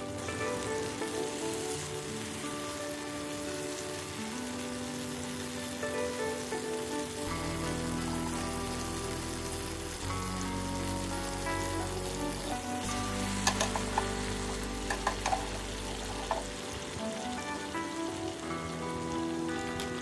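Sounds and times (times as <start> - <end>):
food sizzling in a frying pan: 0.0 - 20.0
soft background music: 0.0 - 20.0.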